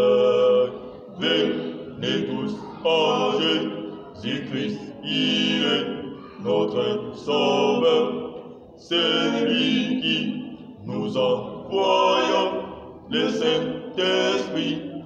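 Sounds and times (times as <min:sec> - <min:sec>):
choir singing a hymn unaccompanied: 0:00.0 - 0:15.0.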